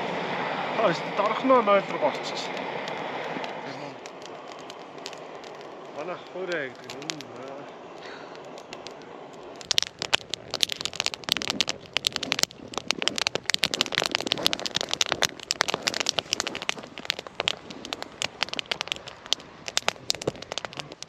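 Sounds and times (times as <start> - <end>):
firewood crackling and popping: 0.0 - 21.0.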